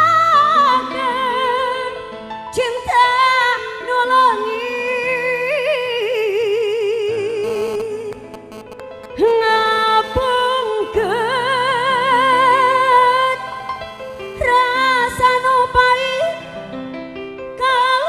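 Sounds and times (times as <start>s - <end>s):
woman singing with vibrato: 0.0s - 8.4s, 9.2s - 16.8s, 17.6s - 18.0s
keyboard backing: 0.0s - 18.0s.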